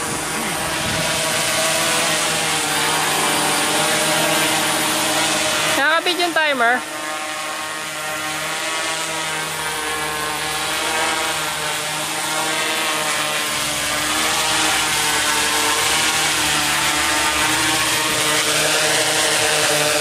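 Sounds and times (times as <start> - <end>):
quadcopter drone hum: 0.0 - 20.0.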